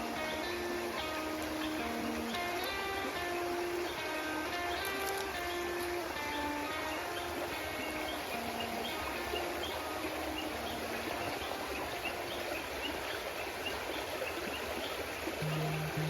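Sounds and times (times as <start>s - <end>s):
creek babbling and trickling: 0.0s - 16.0s.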